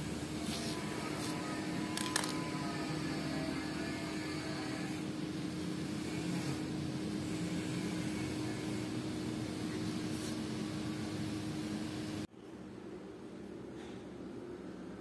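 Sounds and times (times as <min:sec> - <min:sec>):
fan hum and hiss: 0:00.0 - 0:15.0.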